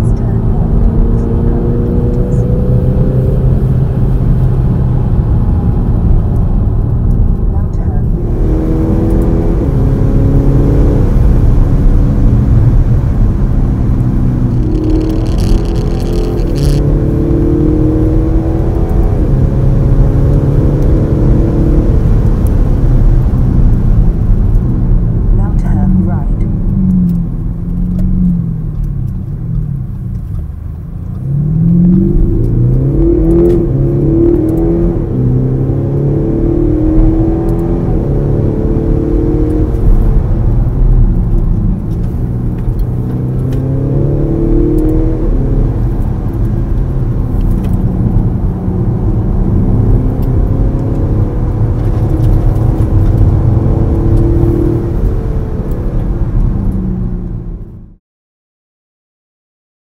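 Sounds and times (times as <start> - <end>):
diesel engine accelerating: 0.0 - 58.0.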